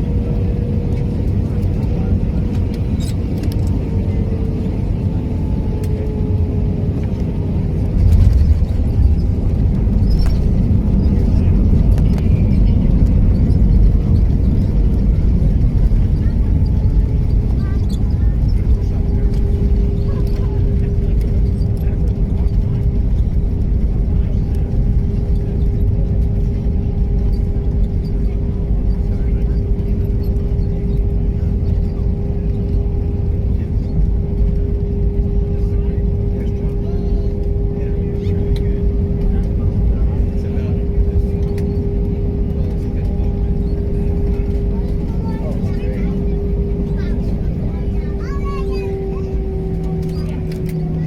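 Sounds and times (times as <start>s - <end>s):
airplane cabin rumble: 0.0s - 51.0s
jet engine hum: 0.0s - 51.0s.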